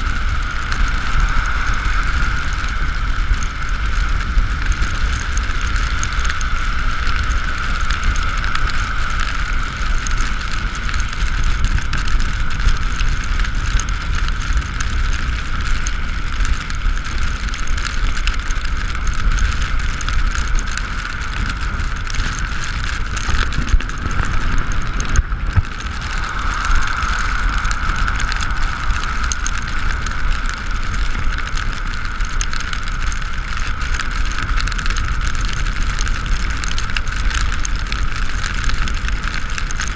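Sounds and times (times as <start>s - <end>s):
electric scooter whine: 0.0s - 39.9s
wind and tyre rumble: 0.0s - 39.9s.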